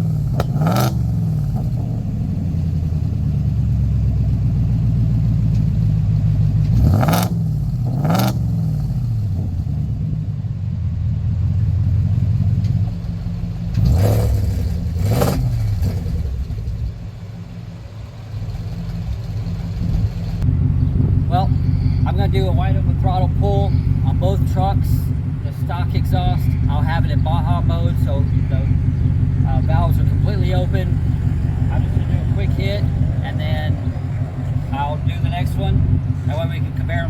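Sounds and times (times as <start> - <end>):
car engine idling: 0.0 - 37.0
engine revving: 0.0 - 37.0.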